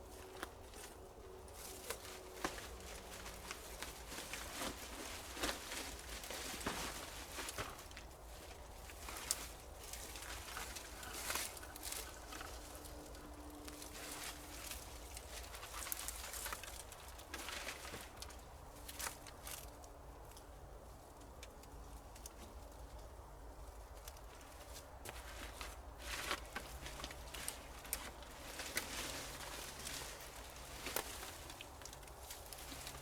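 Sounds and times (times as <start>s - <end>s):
dry leaves rustling: 0.0s - 33.0s
twigs cracking: 0.1s - 20.5s, 23.9s - 33.0s.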